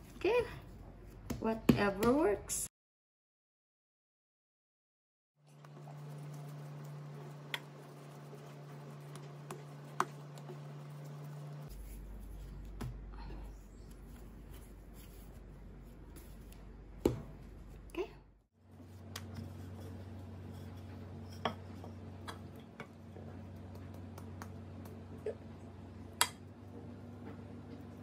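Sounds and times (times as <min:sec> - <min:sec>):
steady low hum: 0:05.4 - 0:28.0.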